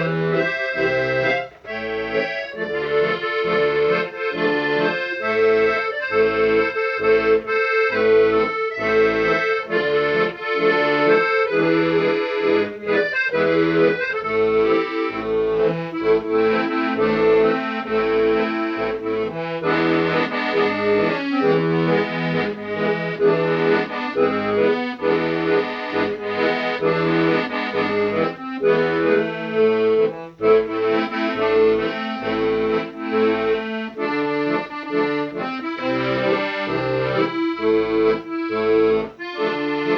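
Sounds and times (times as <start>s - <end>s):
accordion music: 0.0s - 39.9s.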